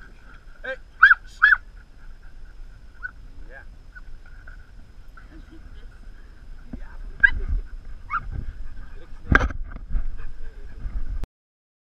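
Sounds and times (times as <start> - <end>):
dogs barking and yipping: 0.1 - 11.0.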